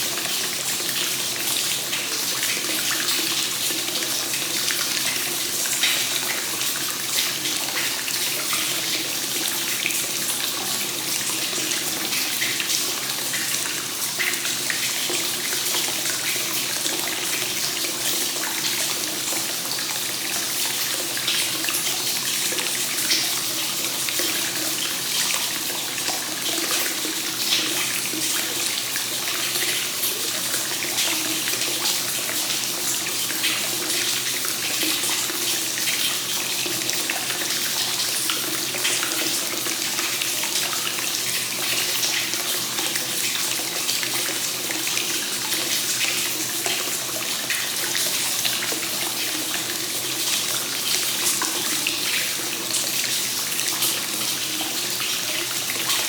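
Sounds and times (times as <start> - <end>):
water pouring into a bath: 0.0 - 56.0.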